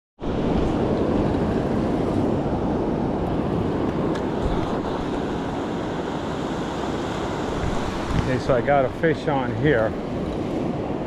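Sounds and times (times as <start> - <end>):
ocean surf: 0.2 - 11.0
wind buffeting microphone: 0.2 - 11.0.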